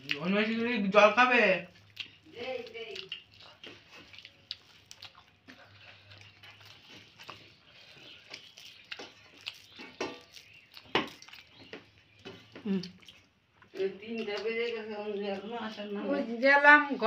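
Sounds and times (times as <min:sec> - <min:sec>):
person chewing: 0:00.0 - 0:00.8, 0:01.6 - 0:15.8.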